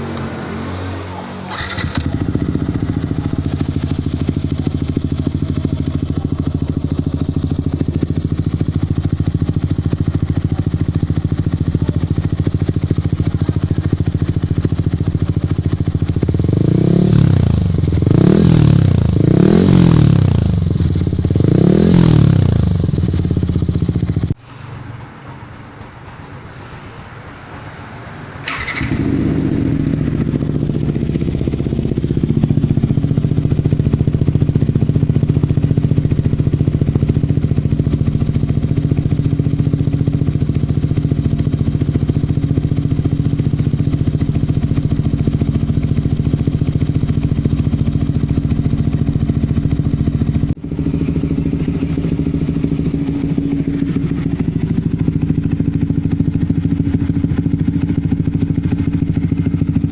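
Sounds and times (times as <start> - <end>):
motorcycle engine running steadily: 0.0 - 24.4, 25.0 - 59.9.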